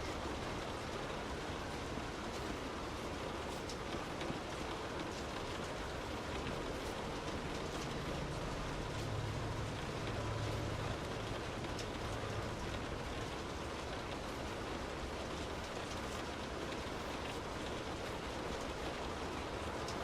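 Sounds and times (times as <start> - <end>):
raindrop ticks: 0.0 - 20.0
steady rain hiss: 0.0 - 20.0.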